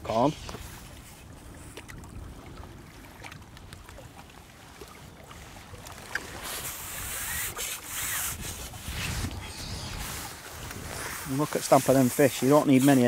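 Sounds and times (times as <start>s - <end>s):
water splashing and sloshing: 0.0s - 13.0s
wind rumbling on microphone: 0.0s - 13.0s.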